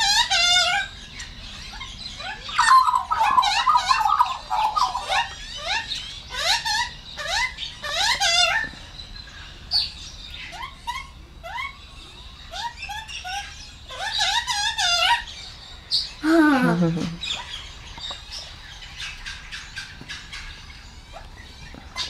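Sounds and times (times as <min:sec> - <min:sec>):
magpies calling: 0:00.0 - 0:22.0.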